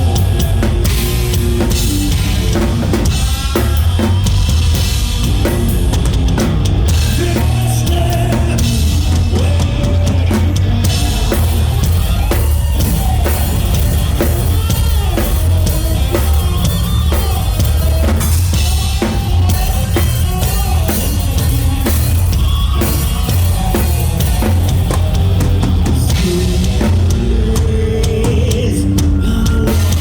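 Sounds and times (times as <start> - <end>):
drum kit pounding: 0.0 - 30.0
rock band playing live: 0.0 - 30.0.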